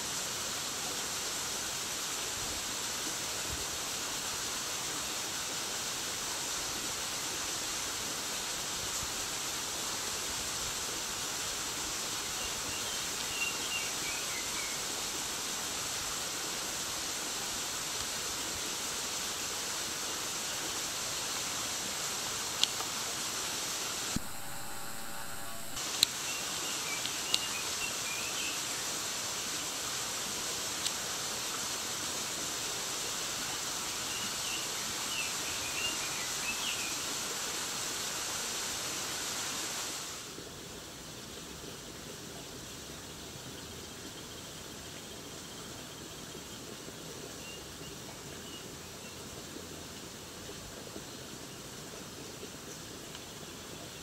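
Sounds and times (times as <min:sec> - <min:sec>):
flowing stream water: 0:00.0 - 0:54.0.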